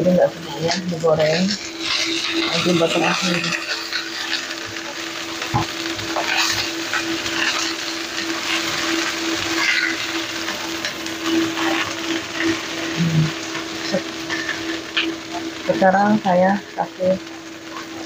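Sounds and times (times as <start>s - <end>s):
spatula scraping and tapping wok: 0.0s - 15.9s
fish sizzling in hot oil: 0.0s - 18.0s.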